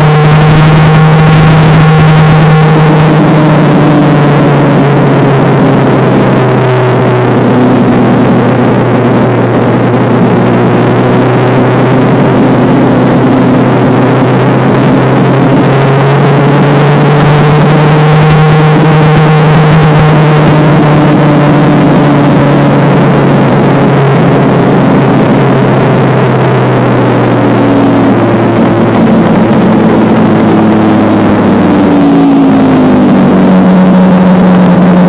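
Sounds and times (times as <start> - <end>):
motorcycle engine cruising: 0.0 - 35.0
road noise: 0.0 - 35.0
rushing wind: 0.0 - 35.0.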